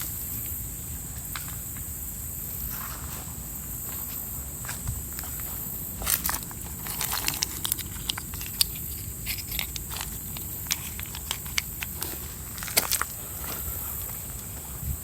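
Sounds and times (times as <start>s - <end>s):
footsteps crunching on rough ground: 2.6s - 15.0s.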